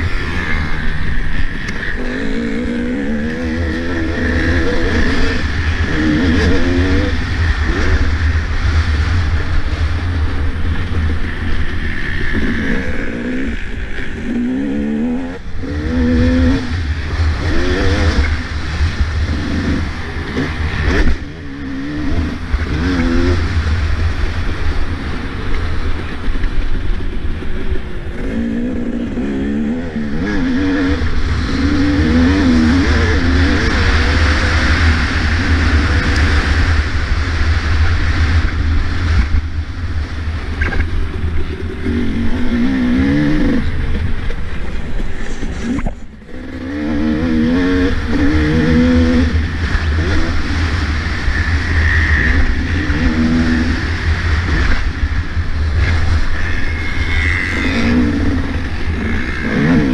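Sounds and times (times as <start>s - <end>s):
motocross bike engine revving: 0.0s - 59.9s
wind buffeting microphone: 0.0s - 59.9s.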